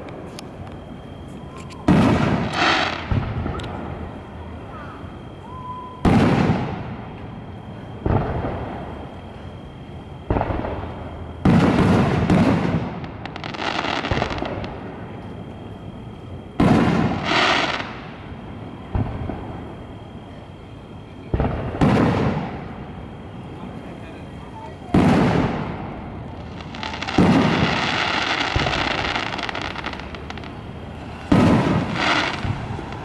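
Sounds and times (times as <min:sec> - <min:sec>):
fireworks booming: 0:00.0 - 0:33.0
fireworks crackling hiss: 0:00.0 - 0:33.0.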